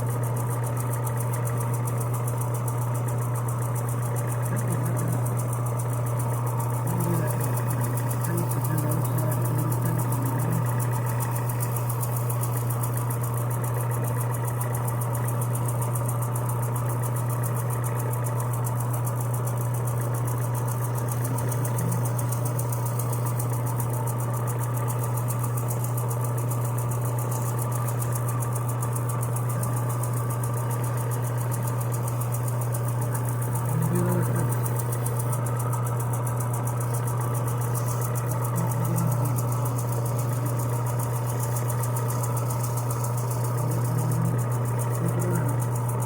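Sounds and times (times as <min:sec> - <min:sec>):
electric sander running: 0:00.0 - 0:16.6, 0:19.4 - 0:46.0.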